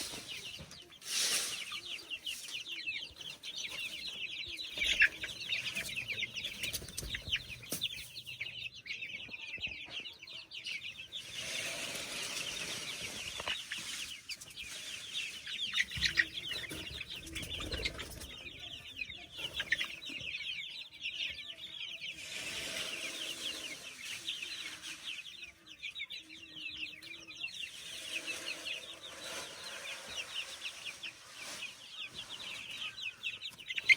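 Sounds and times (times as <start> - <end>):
baby chicks peeping: 0.0 - 33.9.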